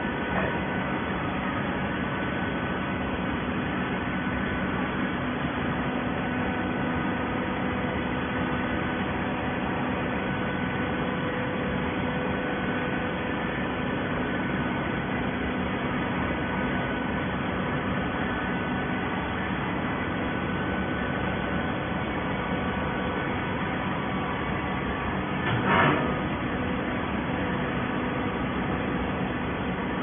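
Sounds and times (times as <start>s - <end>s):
baler mechanical hum: 0.0s - 30.0s.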